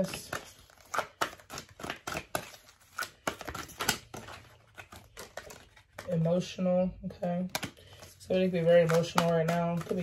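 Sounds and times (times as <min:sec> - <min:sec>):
cards being shuffled: 0:00.0 - 0:06.5, 0:07.3 - 0:10.0.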